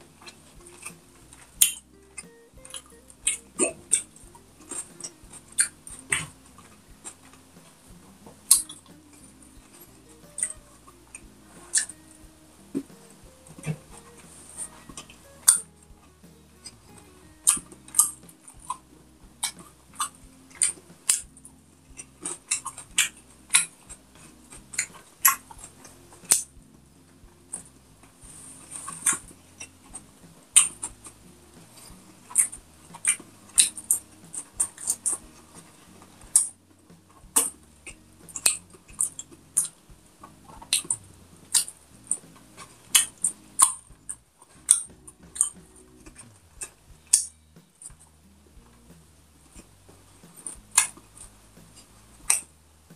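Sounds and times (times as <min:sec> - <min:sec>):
faint background music: 0:00.0 - 0:52.9.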